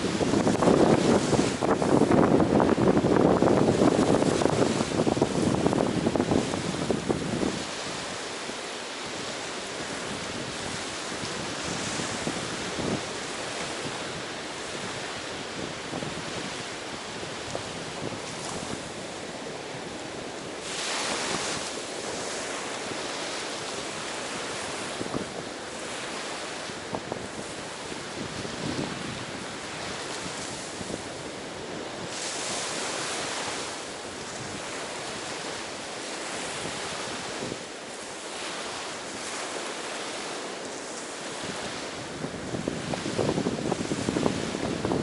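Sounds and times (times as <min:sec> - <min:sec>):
waves rushing on shore: 0:00.0 - 0:45.0
wind buffeting microphone: 0:00.0 - 0:45.0.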